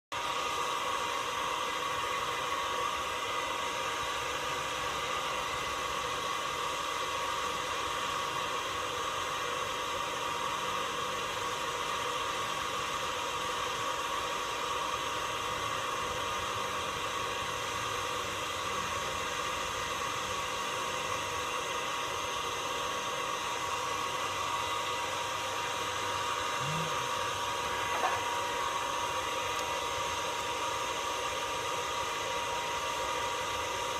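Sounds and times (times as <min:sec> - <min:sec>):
machine whir and hiss: 0:00.2 - 0:33.9.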